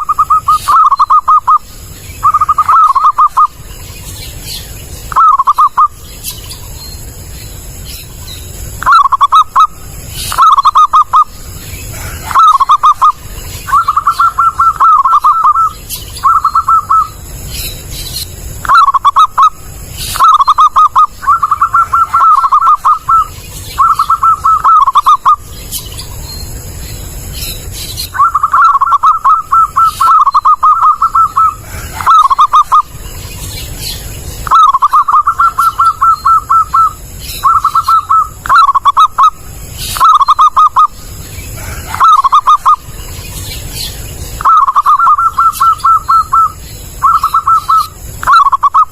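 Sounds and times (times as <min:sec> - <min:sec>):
dove cooing: 0:00.0 - 0:03.6, 0:05.1 - 0:06.0, 0:08.8 - 0:17.3, 0:18.6 - 0:25.5, 0:28.0 - 0:33.0, 0:33.7 - 0:43.0, 0:43.7 - 0:48.9.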